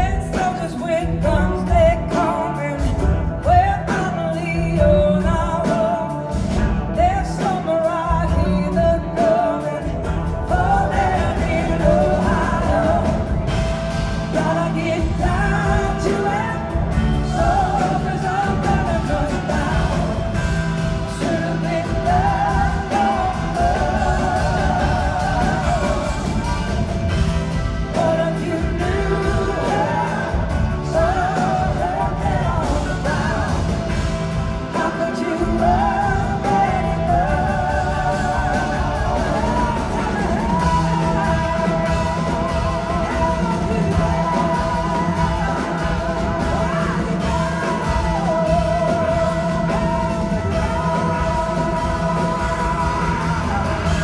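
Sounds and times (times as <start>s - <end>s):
bending lead guitar melody: 0.0s - 54.0s
live blues rock band: 0.0s - 54.0s.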